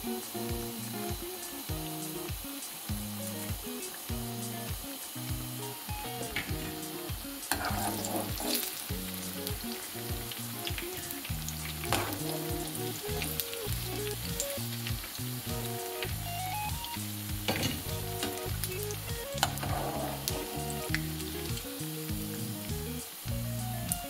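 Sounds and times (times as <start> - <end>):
background music with low notes: 0.0 - 24.0
fritters sizzling in hot oil: 0.0 - 24.0.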